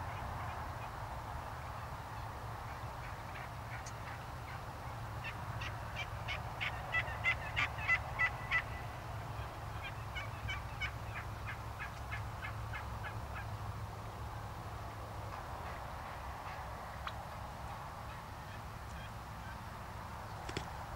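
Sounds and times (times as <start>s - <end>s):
wild turkeys calling: 0.1s - 13.6s, 14.8s - 20.9s.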